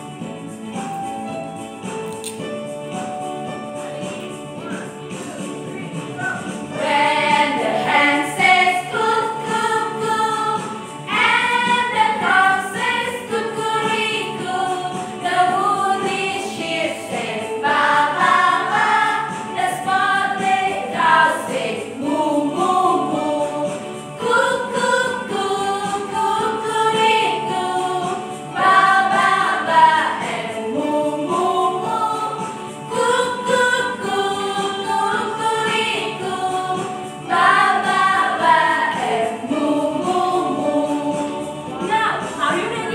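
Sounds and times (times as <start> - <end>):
electronic keyboard: 0.0 - 42.9
women singing in unison: 6.7 - 42.9.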